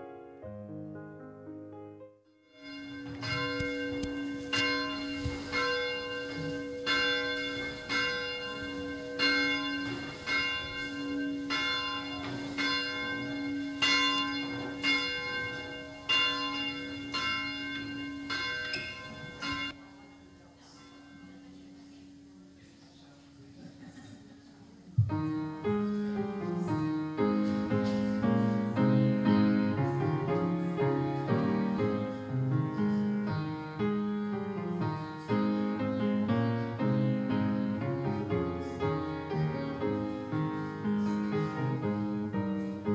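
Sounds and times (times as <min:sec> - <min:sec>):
church bell tolling: 0:02.4 - 0:23.3, 0:25.1 - 0:42.9.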